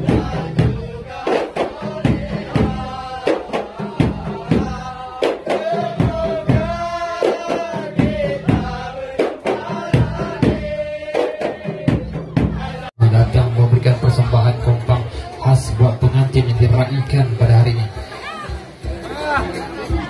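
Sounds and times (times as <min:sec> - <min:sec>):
drum beat: 0:00.0 - 0:20.0.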